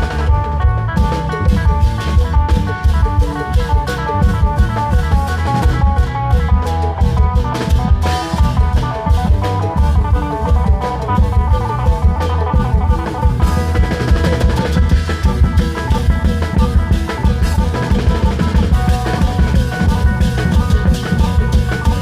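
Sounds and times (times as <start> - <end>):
fast drumming: 0.0 - 22.0.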